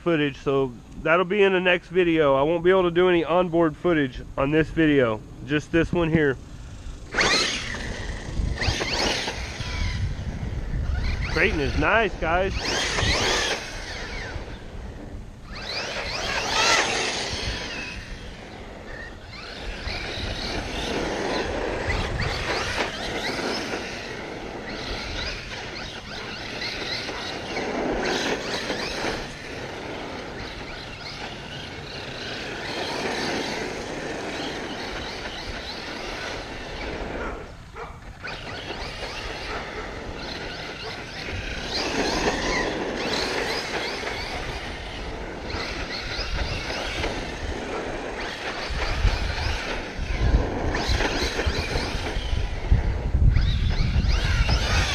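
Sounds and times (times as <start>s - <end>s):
electric motor whining: 5.9s - 54.9s.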